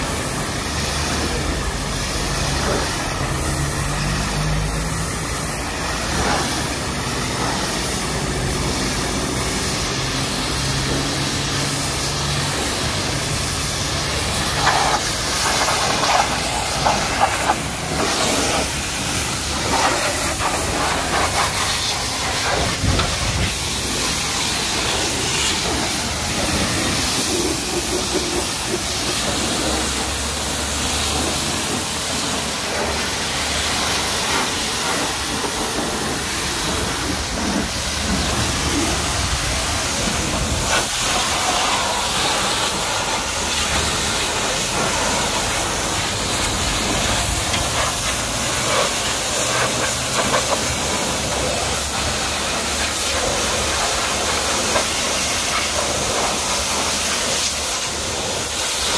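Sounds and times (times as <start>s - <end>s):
pressure washer spraying: 0.0s - 58.9s.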